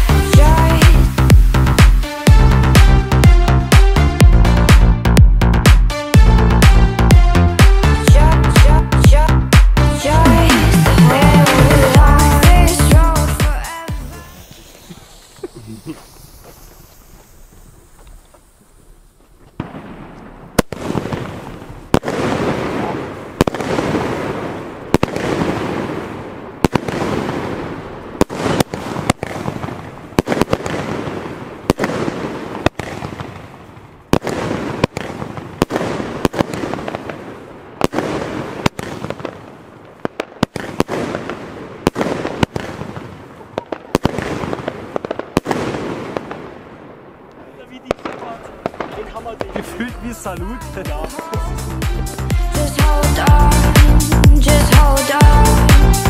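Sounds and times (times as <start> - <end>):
firework shells bursting with bangs: 10.9 - 55.9.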